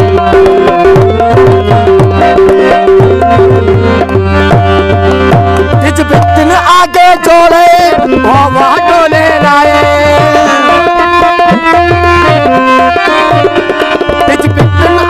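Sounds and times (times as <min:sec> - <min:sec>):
harmonium chords: 0:00.0 - 0:15.0
tabla rhythm: 0:00.0 - 0:15.0.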